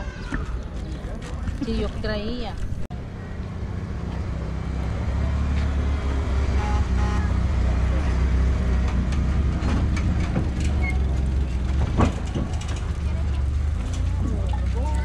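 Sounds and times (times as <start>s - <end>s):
tram vehicle humming: 1.5s - 15.0s.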